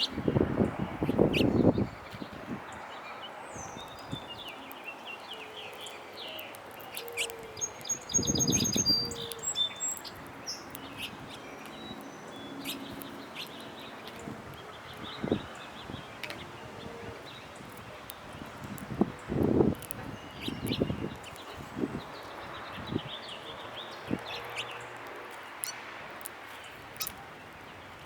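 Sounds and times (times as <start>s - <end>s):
wild birds chirping: 0.0s - 28.0s.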